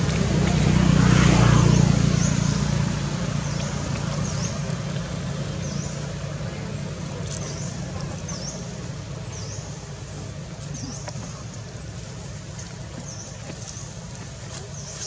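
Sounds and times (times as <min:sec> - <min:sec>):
distant motor drone: 0:00.0 - 0:14.9.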